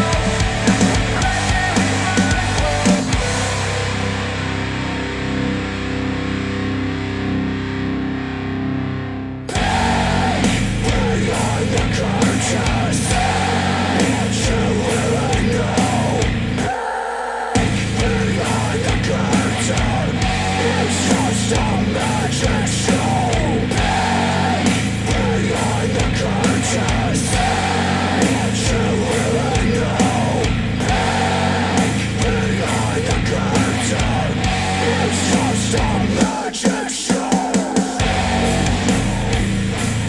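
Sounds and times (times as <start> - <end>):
rock music with vocals: 0.0 - 40.0.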